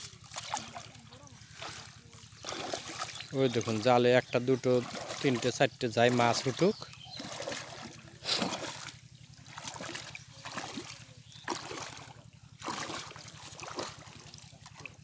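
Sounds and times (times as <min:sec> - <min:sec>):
river water splashing: 0:00.0 - 0:15.0.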